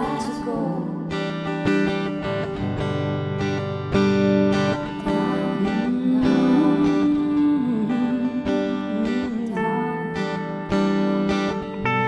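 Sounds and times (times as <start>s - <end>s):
electric guitar strumming chords: 0.0s - 12.0s.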